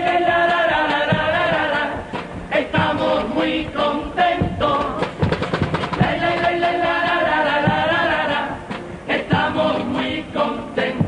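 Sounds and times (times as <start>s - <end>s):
low percussion thumps: 0.0s - 10.0s
male chorus singing in harmony: 0.0s - 11.0s.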